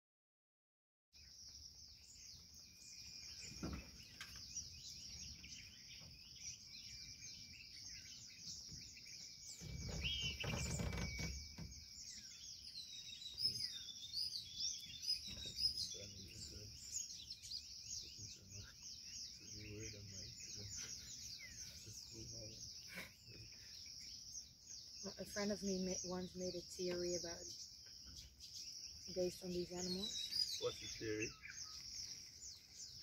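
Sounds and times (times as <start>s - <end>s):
birds chirping: 1.2s - 33.0s.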